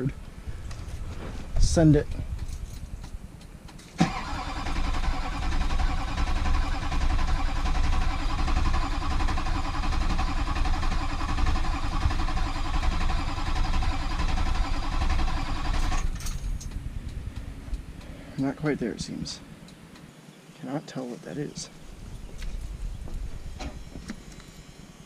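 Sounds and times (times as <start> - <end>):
diesel engine cranking: 0.0 - 20.1.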